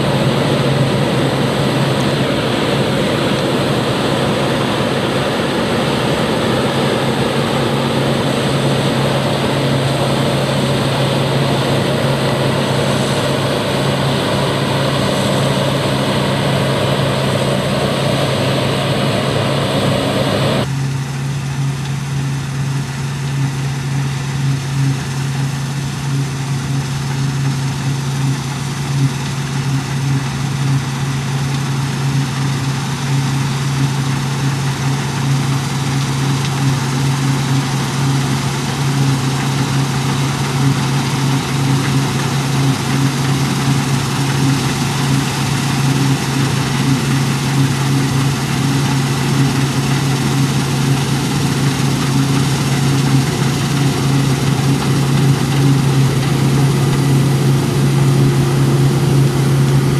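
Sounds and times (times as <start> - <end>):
steady motor hum: 0.0 - 59.9.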